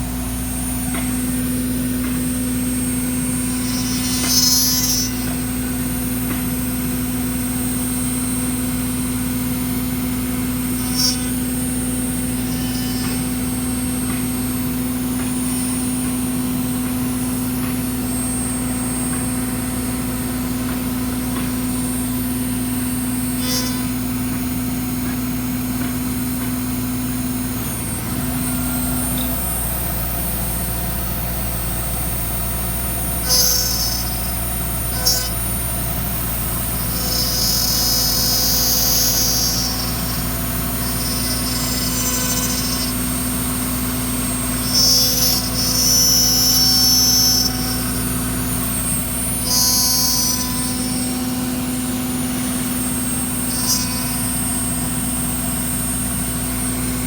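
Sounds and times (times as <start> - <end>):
wood router humming: 0.0 - 57.0.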